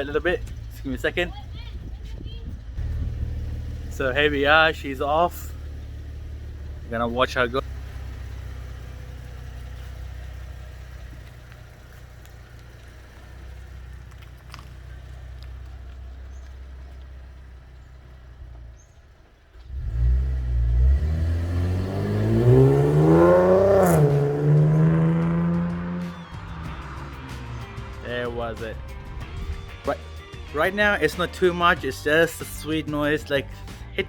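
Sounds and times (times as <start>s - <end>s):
car exhaust rumbling and revving: 0.0s - 29.8s.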